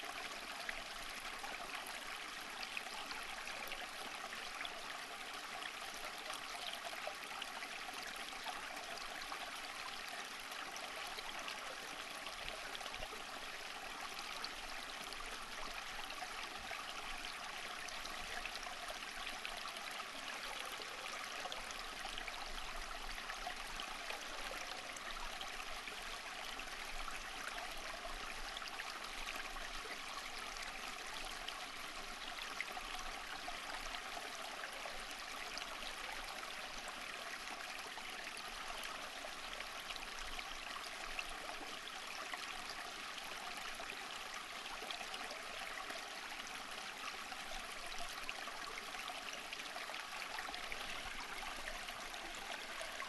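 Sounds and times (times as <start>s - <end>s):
stream trickling: 0.0s - 53.0s.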